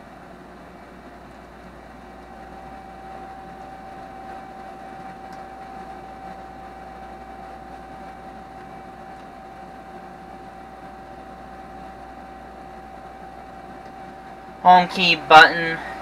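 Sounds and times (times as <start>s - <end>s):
constant steady hum: 0.0s - 16.0s.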